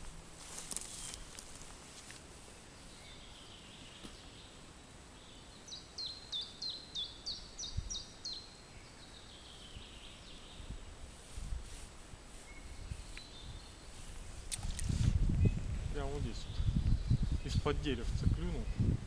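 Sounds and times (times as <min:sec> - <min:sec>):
songbird singing: 0:00.0 - 0:11.0, 0:12.4 - 0:19.0
faint outdoor hiss: 0:00.0 - 0:19.0.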